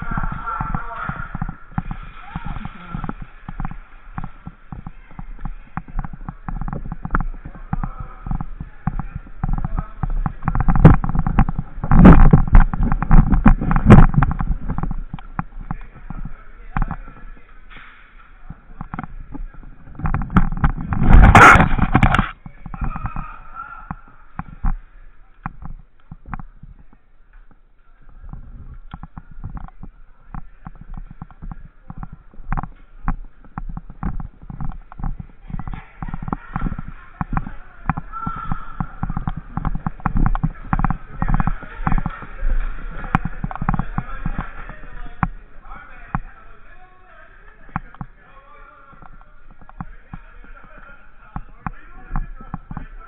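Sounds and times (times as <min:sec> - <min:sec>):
knocks clicks and thumps: 0:00.0 - 0:23.3, 0:23.9 - 0:24.8, 0:25.4 - 0:45.4.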